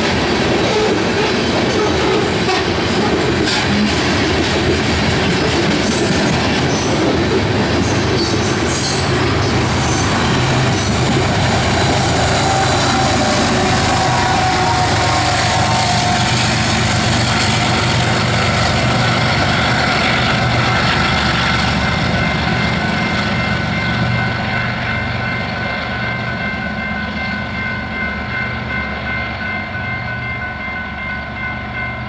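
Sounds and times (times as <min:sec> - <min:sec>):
diesel locomotive rumbling: 0:00.0 - 0:32.0
rail noise: 0:00.0 - 0:32.0.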